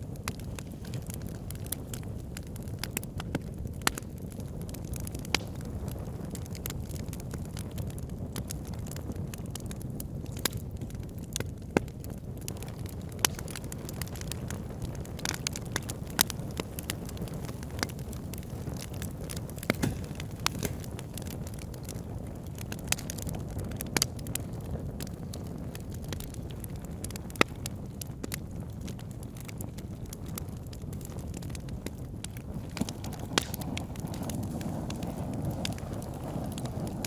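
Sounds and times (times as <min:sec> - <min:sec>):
fire crackling and popping: 0:00.0 - 0:37.0
low rumble of flame: 0:00.0 - 0:37.0.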